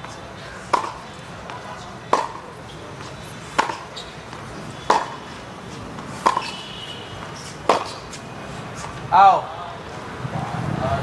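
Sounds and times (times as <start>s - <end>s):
tennis ball racket hits: 0.0s - 9.0s.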